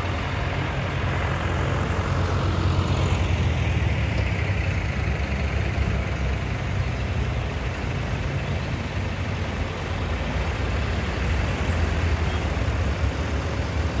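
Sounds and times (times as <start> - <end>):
diesel tractor engines running: 0.0 - 14.0.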